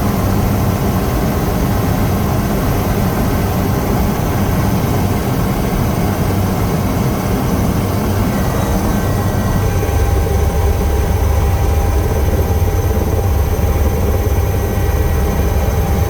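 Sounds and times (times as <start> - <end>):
helicopter cabin drone: 0.0 - 16.0.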